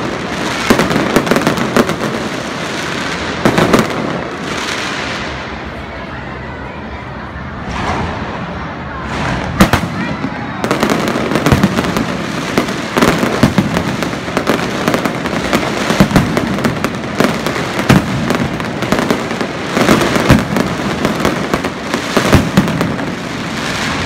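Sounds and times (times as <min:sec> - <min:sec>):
fireworks bangs: 0:00.0 - 0:24.0
fireworks crackling: 0:00.0 - 0:24.0.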